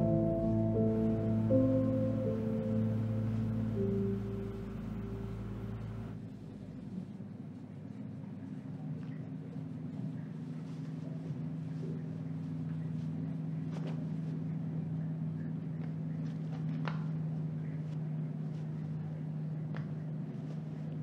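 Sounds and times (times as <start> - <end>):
low hum of held tones: 0.0 - 21.0.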